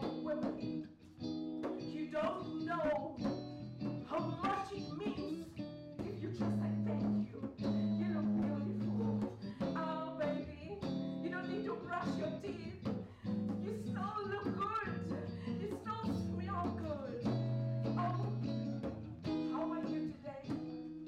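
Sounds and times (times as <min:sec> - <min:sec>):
woman singing into a microphone: 0:00.0 - 0:00.9, 0:01.8 - 0:20.9
guitar accompaniment: 0:00.0 - 0:21.0.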